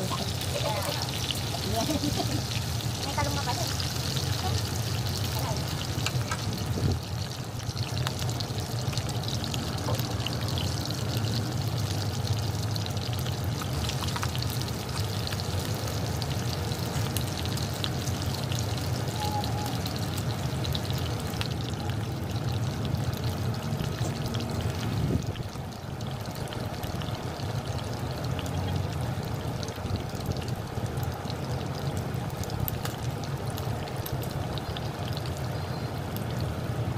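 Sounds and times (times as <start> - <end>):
food sizzling in a wok: 0.0 - 36.9.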